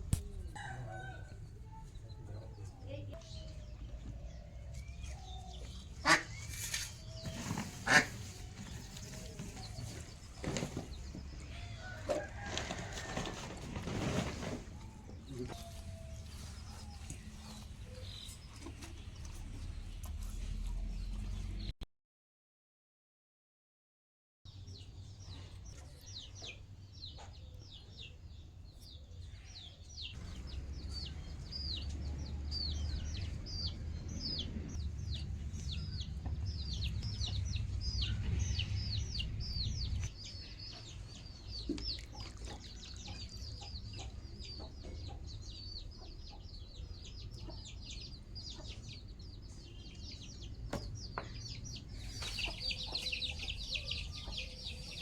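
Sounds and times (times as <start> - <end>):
chicks peeping: 0.2 - 14.6, 24.7 - 55.0.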